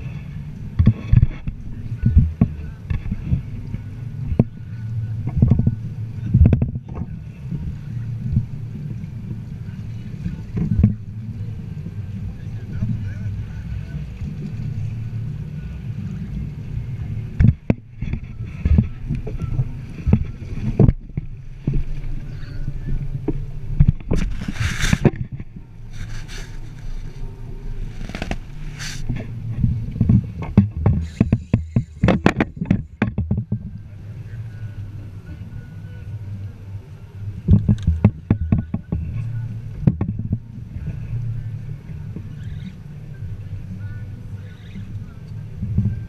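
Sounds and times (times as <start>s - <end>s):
steady low rumble: 0.0s - 46.0s.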